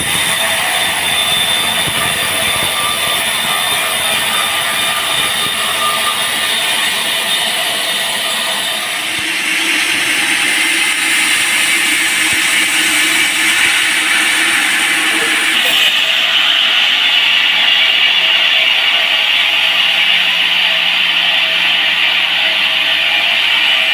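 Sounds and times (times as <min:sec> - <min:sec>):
band saw cutting log: 0:00.0 - 0:23.9.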